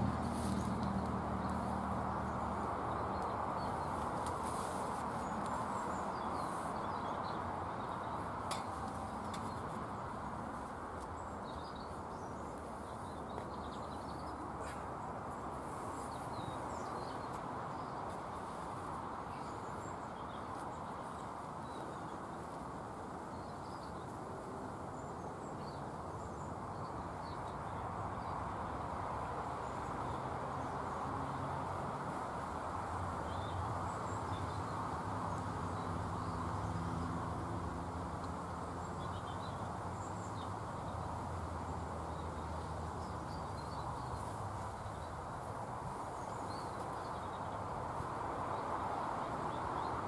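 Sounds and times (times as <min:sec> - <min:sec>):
small birds chirping: 0:00.0 - 0:50.0
steady background hiss: 0:00.0 - 0:50.0.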